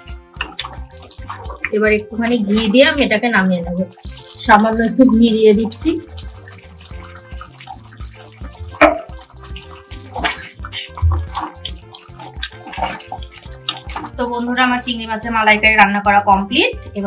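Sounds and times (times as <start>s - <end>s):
spatula stirring sauce: 0.0s - 14.2s
curry bubbling and popping: 0.0s - 14.6s.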